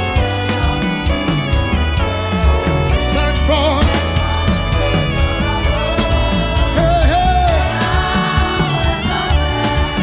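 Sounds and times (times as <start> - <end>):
live band playing: 0.0 - 10.0.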